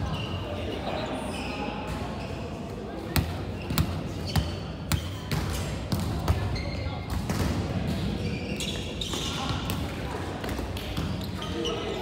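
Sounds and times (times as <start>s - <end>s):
distant chatter of players: 0.0s - 12.0s.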